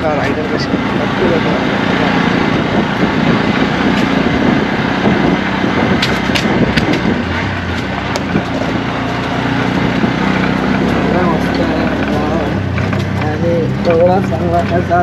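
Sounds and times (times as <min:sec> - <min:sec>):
road and wind noise: 0:00.0 - 0:15.0
small engine running: 0:00.0 - 0:15.0.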